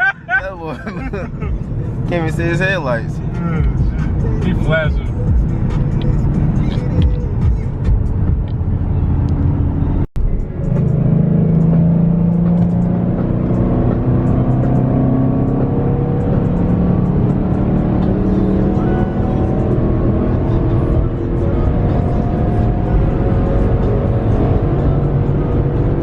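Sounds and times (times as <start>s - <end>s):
engine accelerating hard: 0.0s - 26.0s.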